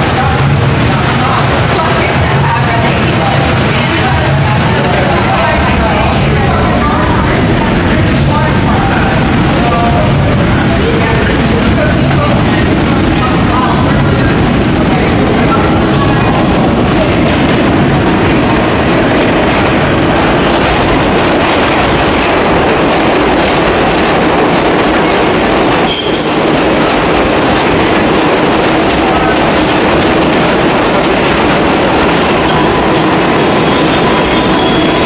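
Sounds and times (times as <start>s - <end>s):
subway train wheels rumbling on rails: 0.0s - 35.0s.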